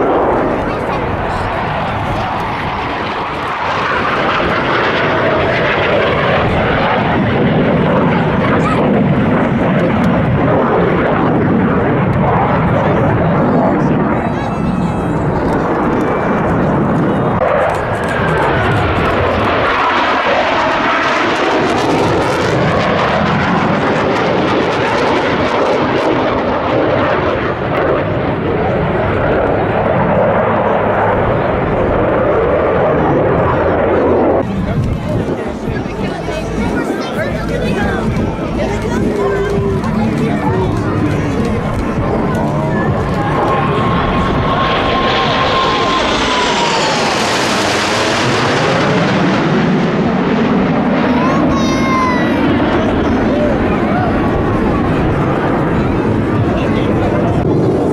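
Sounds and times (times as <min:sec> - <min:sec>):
jet engine roar: 0:00.0 - 0:57.9
whine dropping in pitch: 0:00.0 - 0:57.9.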